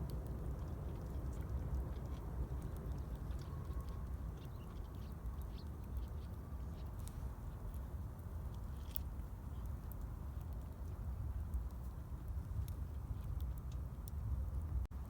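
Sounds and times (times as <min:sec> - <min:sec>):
campfire wood crackling: 0:00.0 - 0:15.0.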